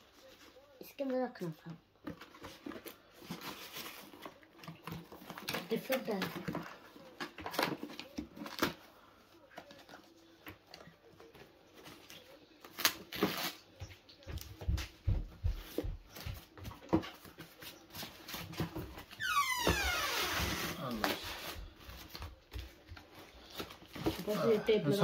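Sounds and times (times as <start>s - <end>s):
paper and cardboard rustling: 0.0s - 13.6s, 15.6s - 19.2s, 20.4s - 24.7s.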